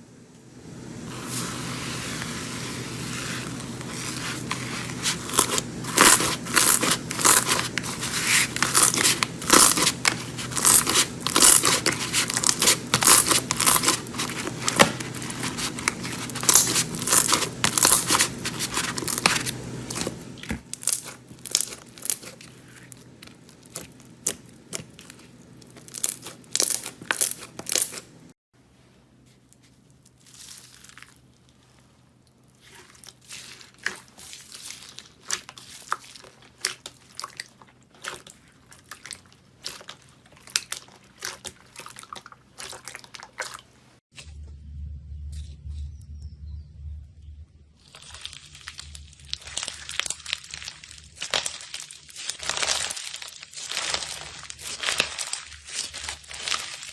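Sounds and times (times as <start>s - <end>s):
slime crackling and popping: 2.0s - 28.2s, 32.6s - 43.5s, 47.8s - 56.9s.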